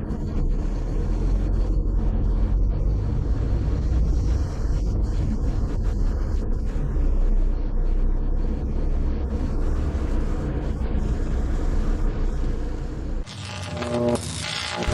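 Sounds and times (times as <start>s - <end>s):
car engine and road noise: 0.0s - 13.3s.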